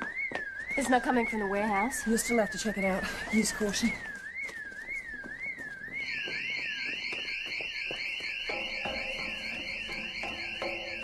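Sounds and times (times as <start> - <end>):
electronic siren warbling: 0.0 - 11.0
higher-pitched siren sweeping: 0.0 - 11.0.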